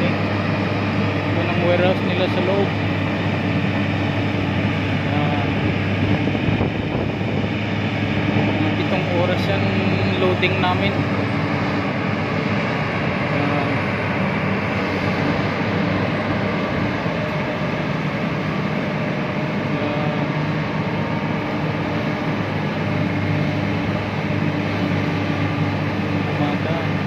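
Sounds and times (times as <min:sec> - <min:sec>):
excavator diesel engine droning: 0:00.0 - 0:27.0.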